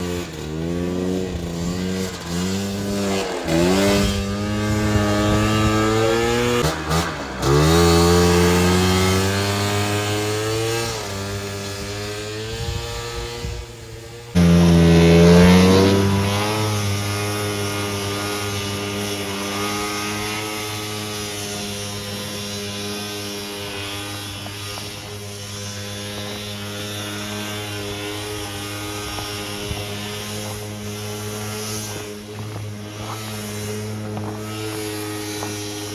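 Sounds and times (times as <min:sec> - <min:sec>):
snowmobile engine at high revs: 0:00.0 - 0:35.9.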